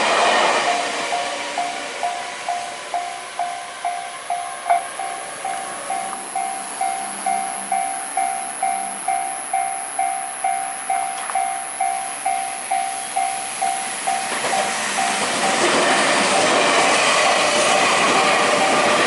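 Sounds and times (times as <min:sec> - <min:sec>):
level crossing warning bell: 0:00.0 - 0:15.7
train running noise: 0:00.0 - 0:19.0.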